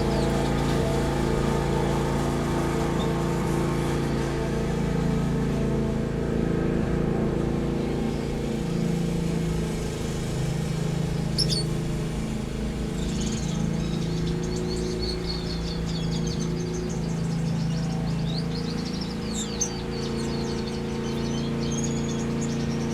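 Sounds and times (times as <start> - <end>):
small birds chirping: 0.0 - 3.6, 7.8 - 22.9
low machine hum: 0.0 - 22.9.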